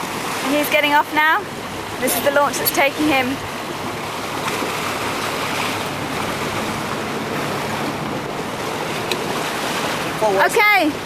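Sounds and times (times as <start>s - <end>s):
boat engine hum: 0.0s - 11.0s
water rushing: 0.0s - 11.0s
wind: 0.0s - 11.0s.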